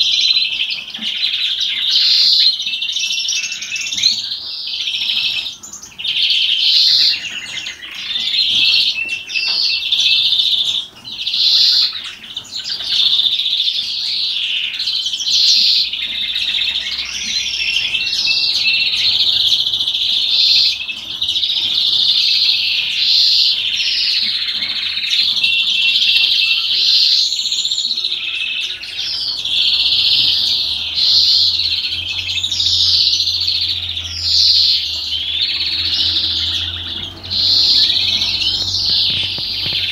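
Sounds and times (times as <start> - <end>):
finch singing trills: 0.0 - 39.9.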